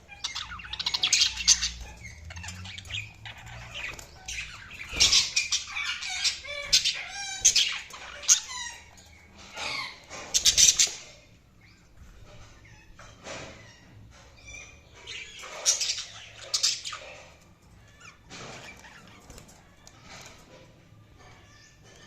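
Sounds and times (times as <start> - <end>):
budgies chirping and chattering: 0.0 - 22.0.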